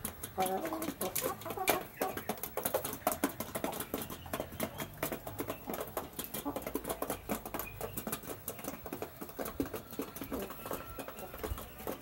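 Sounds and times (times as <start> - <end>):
chickens pecking beak taps: 0.0 - 12.0.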